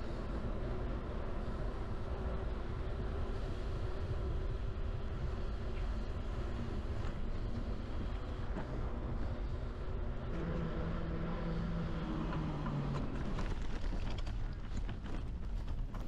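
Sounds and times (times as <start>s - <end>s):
wind and tyre rumble: 0.0s - 16.0s.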